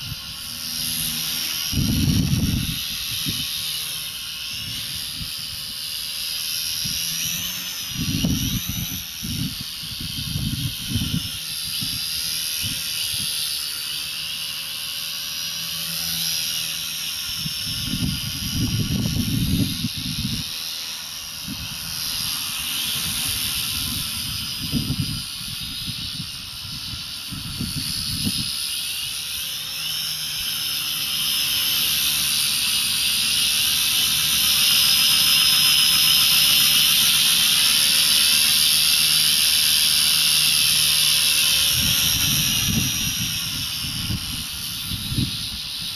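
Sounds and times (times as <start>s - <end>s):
toy helicopter motor whine: 0.0s - 45.9s.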